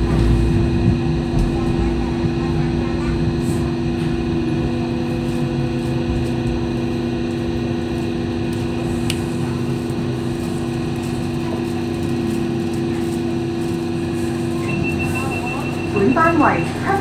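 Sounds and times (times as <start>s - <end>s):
electrical hum with low tones: 0.0s - 17.0s
wheels rumbling on track: 0.0s - 17.0s.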